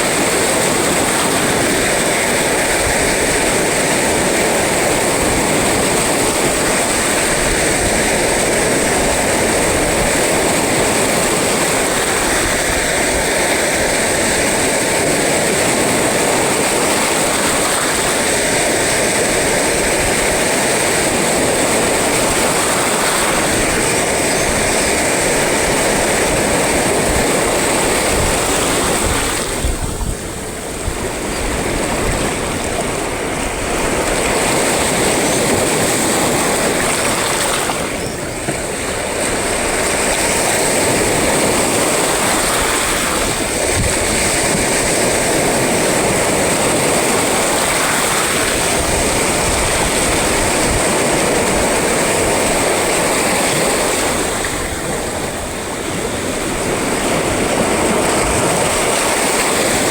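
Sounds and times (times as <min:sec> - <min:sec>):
rough sea surf roaring: 0:00.0 - 0:59.9.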